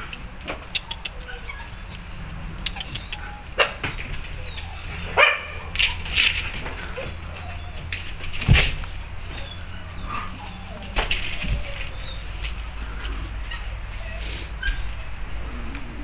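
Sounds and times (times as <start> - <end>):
puppies barking and yipping: 0.0 - 15.7.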